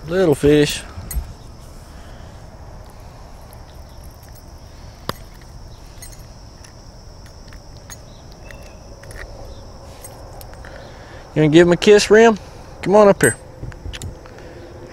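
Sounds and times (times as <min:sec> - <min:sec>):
insects chirring: 0:00.0 - 0:14.9
low background hum: 0:00.0 - 0:14.9.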